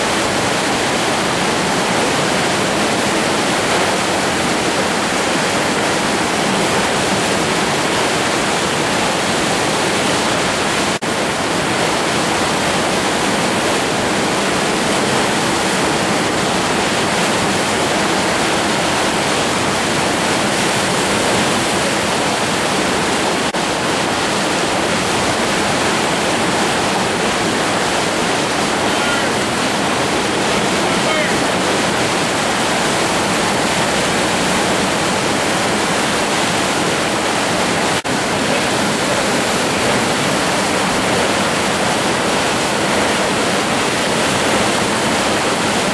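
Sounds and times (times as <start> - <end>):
river rapids rushing: 0.0 - 45.9.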